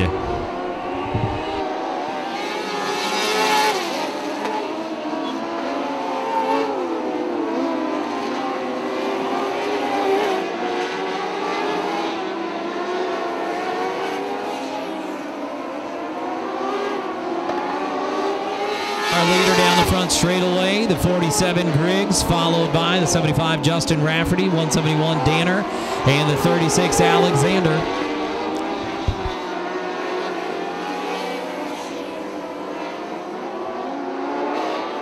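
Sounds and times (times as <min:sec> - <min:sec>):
race car engines: 0:00.0 - 0:35.0.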